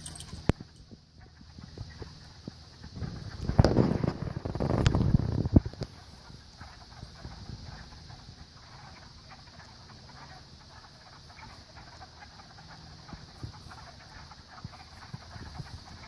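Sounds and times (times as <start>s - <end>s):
frogs calling: 0.0s - 16.0s.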